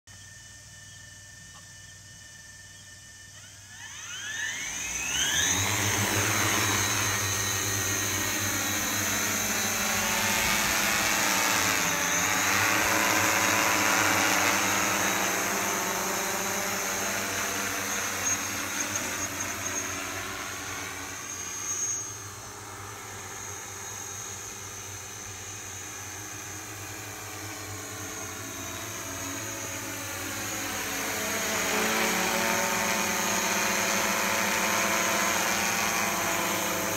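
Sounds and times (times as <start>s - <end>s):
drone propellers whirring: 3.5s - 36.9s.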